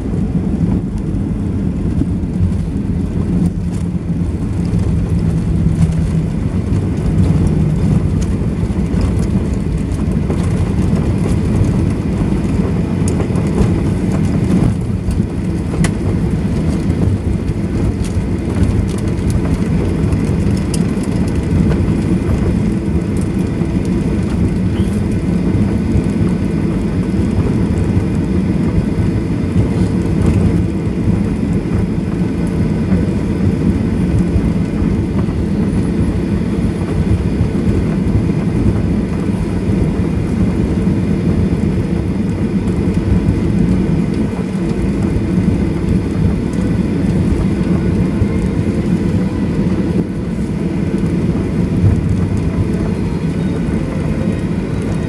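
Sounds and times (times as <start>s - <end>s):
jet cabin rumble on runway: 0.0s - 55.0s.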